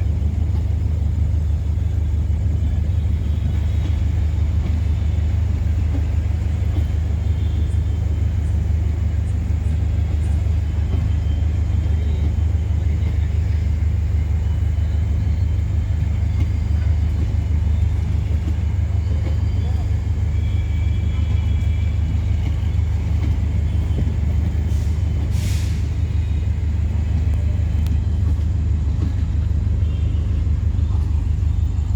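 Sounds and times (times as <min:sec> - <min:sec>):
train low rumble: 0:00.0 - 0:31.9.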